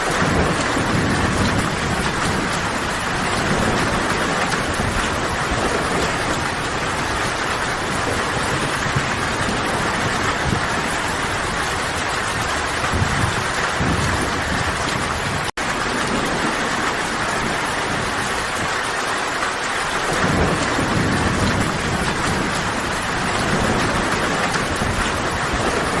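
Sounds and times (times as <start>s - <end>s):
low thunder rumbles: 0.0s - 26.0s
rain falling in a forest: 0.0s - 26.0s.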